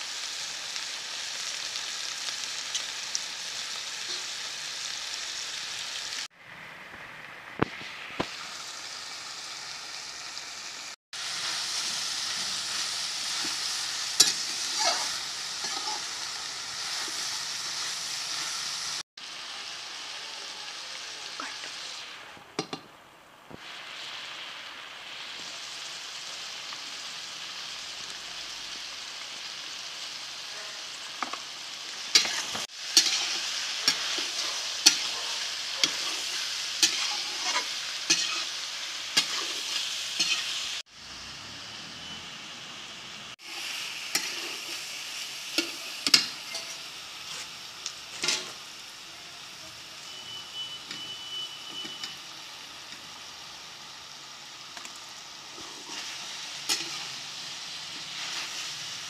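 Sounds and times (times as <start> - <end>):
vegetable slices sizzling in a pan: 0.0 - 59.0.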